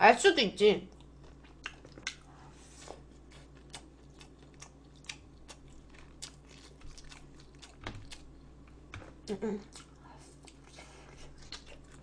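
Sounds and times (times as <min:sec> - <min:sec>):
chewing food with crunches: 0:00.9 - 0:12.0.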